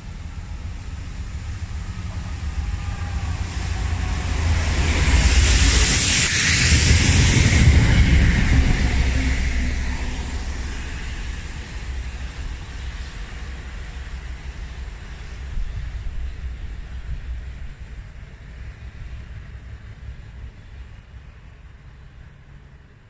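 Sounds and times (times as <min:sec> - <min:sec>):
diesel engine rumble: 0:00.0 - 0:22.9.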